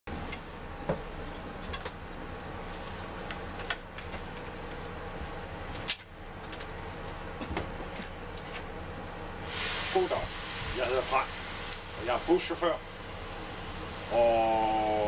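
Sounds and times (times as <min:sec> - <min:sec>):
bus engine hum: 0:00.1 - 0:15.0.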